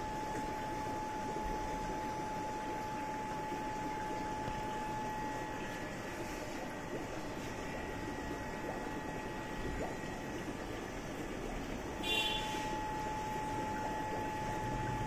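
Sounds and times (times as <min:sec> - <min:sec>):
aquarium air pump humming: 0:00.0 - 0:15.0
mid-pitched whine: 0:00.0 - 0:15.0.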